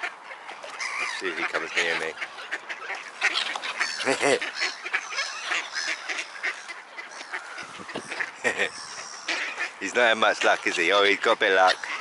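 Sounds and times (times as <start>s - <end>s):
ducks and gulls calling: 0.0s - 12.0s.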